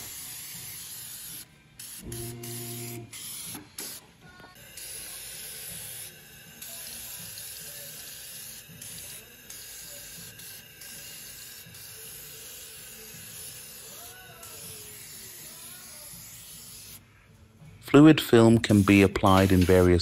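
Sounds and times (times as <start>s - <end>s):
aerosol can spraying: 0.0s - 4.0s, 4.6s - 17.0s, 18.6s - 20.0s.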